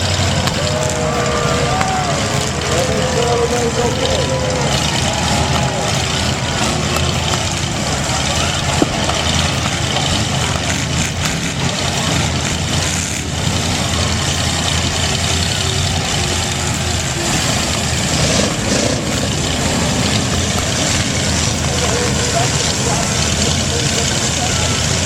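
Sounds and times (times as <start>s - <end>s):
car engines running loud: 0.0s - 25.0s.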